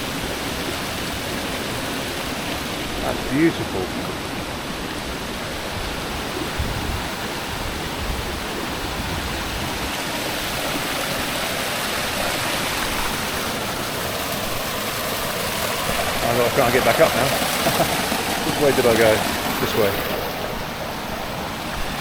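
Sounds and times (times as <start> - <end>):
waterfall over rocks: 0.0 - 22.0.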